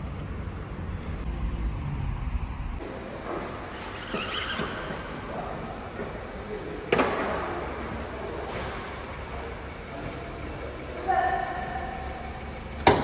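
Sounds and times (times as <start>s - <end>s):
car driving slowly: 0.0s - 13.0s.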